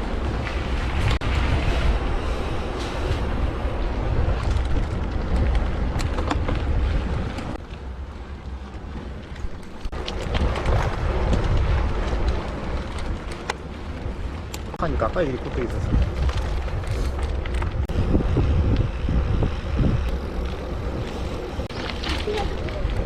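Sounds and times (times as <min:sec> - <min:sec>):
bike clicks and rattles: 0:00.0 - 0:23.0
rumbling tyre noise: 0:00.0 - 0:23.0
wind buffeting microphone: 0:00.0 - 0:23.0.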